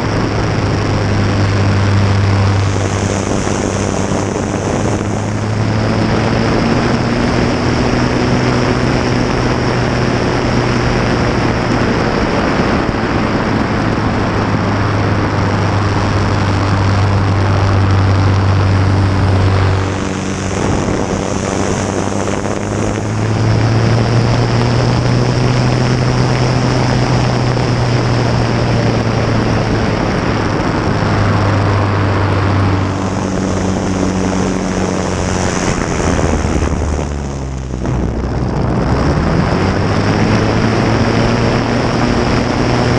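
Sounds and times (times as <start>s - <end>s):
heavy airflow noise: 0.0s - 42.9s
light aircraft engine and propeller: 0.0s - 42.9s.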